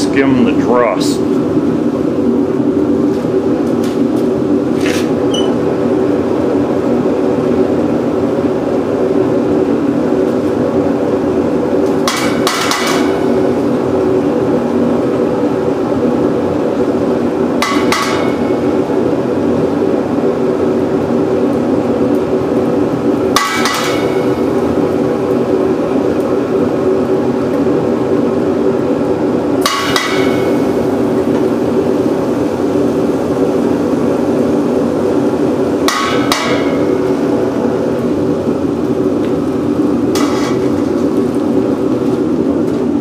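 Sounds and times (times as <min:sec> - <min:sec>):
furnace blower humming: 0:00.0 - 0:43.0.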